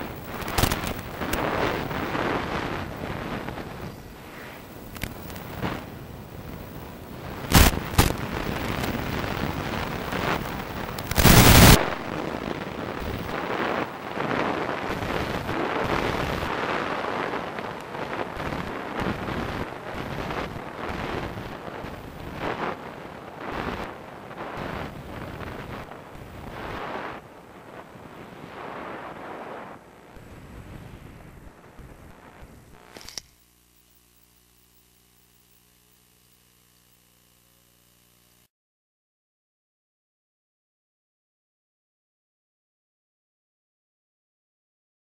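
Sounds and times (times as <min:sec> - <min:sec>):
loud crackling bursts: 0:00.0 - 0:36.6.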